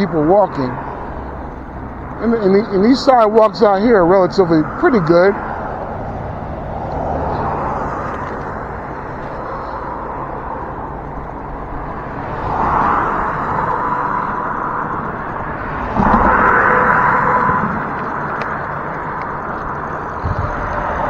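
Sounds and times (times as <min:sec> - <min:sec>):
road traffic noise: 0:00.0 - 0:21.0
vehicle passing close: 0:00.0 - 0:21.0.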